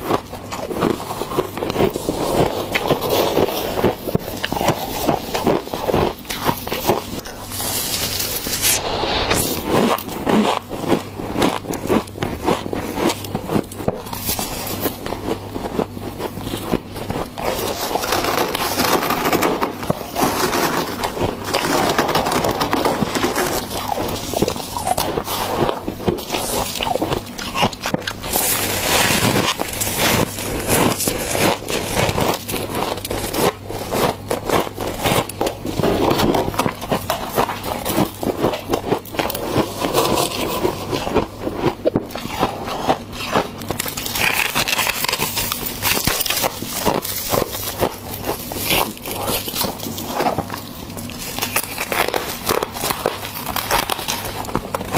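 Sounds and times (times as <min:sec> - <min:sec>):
crunching and chewing frost: 0:00.0 - 0:54.9.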